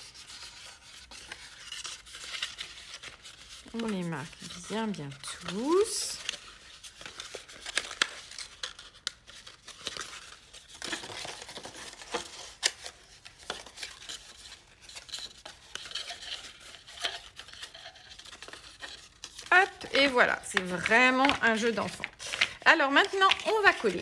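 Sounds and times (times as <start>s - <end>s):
cardstock rustling and crackling: 0.0s - 24.0s.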